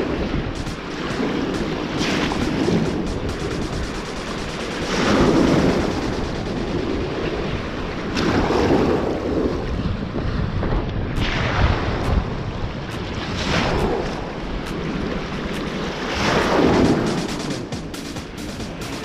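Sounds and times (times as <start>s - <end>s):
wind buffeting microphone: 0.0s - 17.8s
ocean waves breaking: 0.0s - 19.0s.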